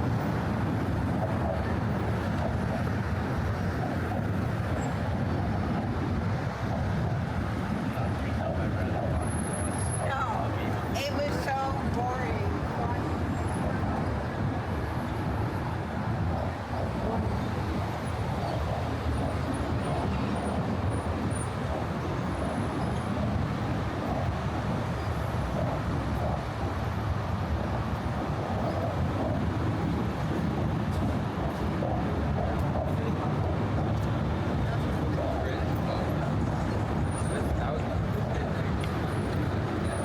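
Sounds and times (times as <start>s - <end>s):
traffic rumble: 0.0s - 40.0s.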